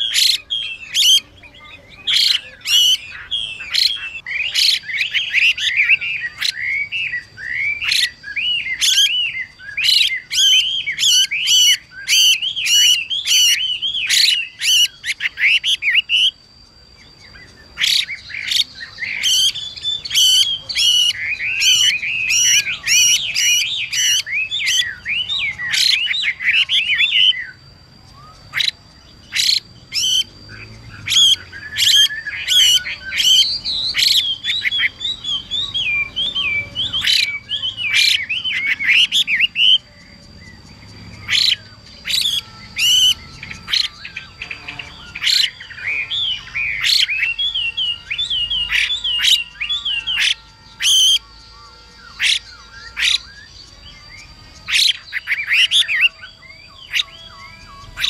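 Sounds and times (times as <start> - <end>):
bird calling with scratchy notes: 0.0 - 58.0.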